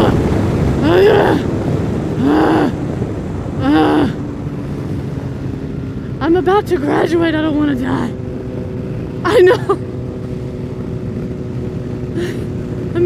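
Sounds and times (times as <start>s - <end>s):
wind rushing over microphone: 0.0s - 13.0s
motorcycle engine running: 1.4s - 13.0s.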